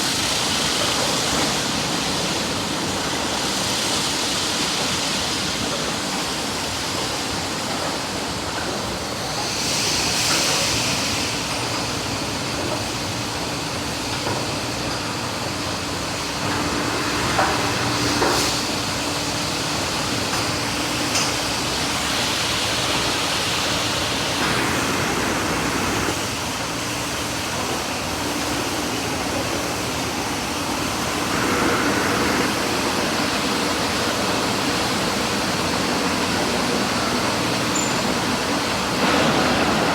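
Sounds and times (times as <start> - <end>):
water spray hissing over a car: 0.0 - 39.9.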